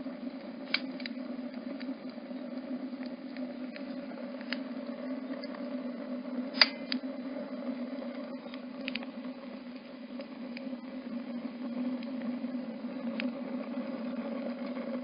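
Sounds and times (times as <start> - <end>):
burning wood crackling: 0.0 - 15.0.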